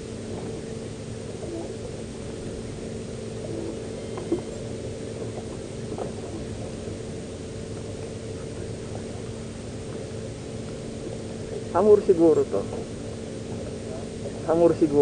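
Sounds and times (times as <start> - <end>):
boat engine hum: 0.0 - 15.0
wind and sea hiss: 0.0 - 15.0.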